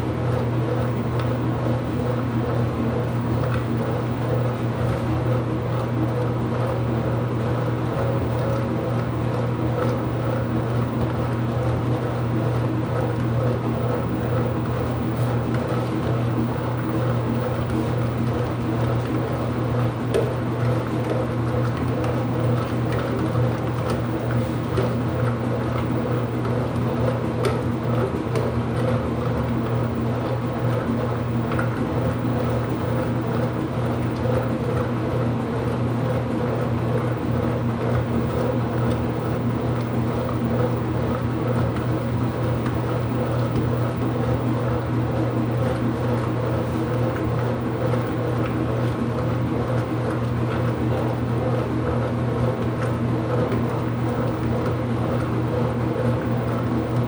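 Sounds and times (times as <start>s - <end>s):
washing machine hum: 0.0s - 57.0s.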